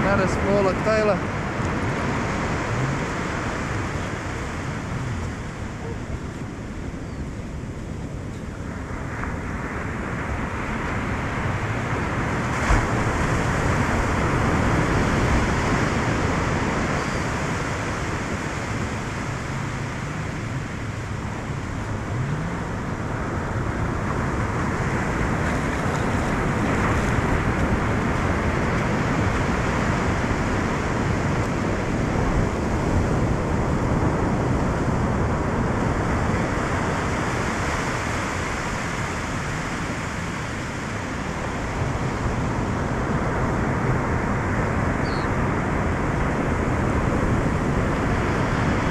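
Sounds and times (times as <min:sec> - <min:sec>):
surf washing up beach: 0:00.0 - 0:48.9
wind on microphone: 0:00.0 - 0:48.9.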